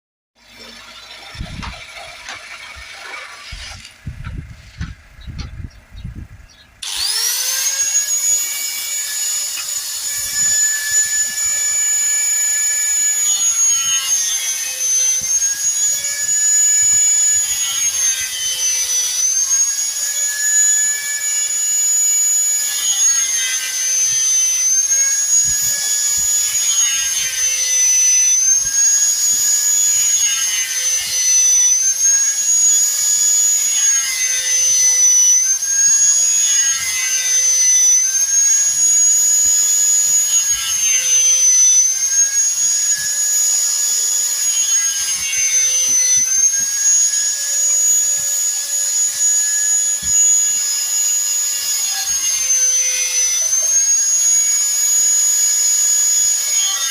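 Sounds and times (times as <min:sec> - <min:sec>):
power tool cutting wood: 0:00.4 - 0:05.5, 0:06.8 - 0:56.9.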